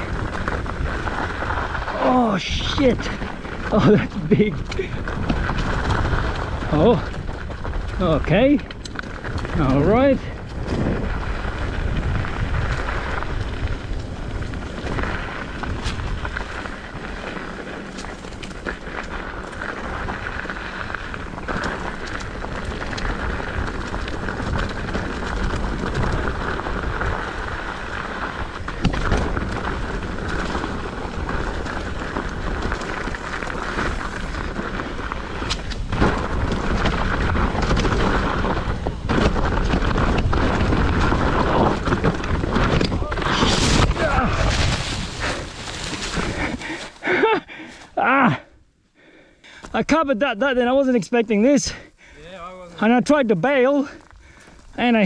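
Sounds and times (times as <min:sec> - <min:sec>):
wind buffeting microphone: 0:00.0 - 0:47.3
tyres rumbling on dirt: 0:00.0 - 0:48.4
bike knocks and rattles: 0:02.5 - 0:46.7.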